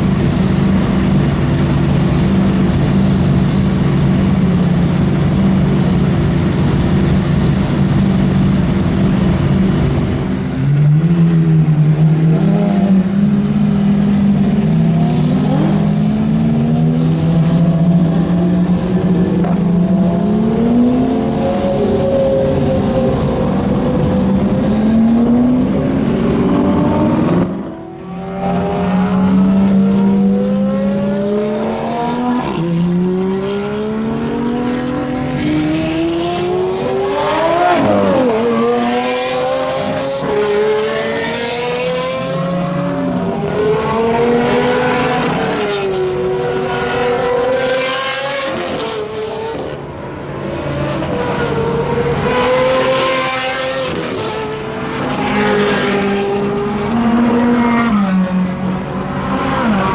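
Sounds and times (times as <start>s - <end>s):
sports car engines revving: 0.0s - 59.9s.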